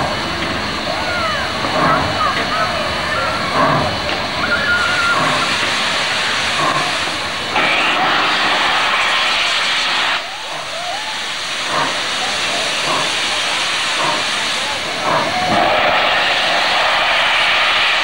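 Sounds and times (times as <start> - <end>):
locomotive venting steam hiss: 0.0 - 18.0.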